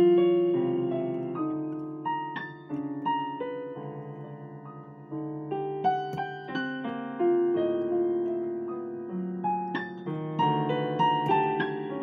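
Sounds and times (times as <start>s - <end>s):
digital piano chords: 0.0s - 12.0s.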